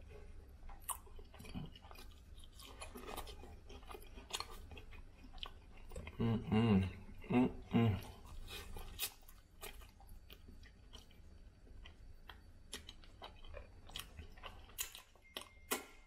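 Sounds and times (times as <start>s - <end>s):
low steady hum: 0.0s - 16.0s
person chewing food: 0.0s - 16.0s.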